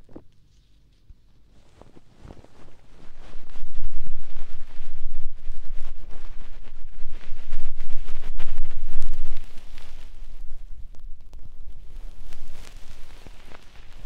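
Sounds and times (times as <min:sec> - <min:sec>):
hands fluttering against microphone: 0:00.0 - 0:14.0.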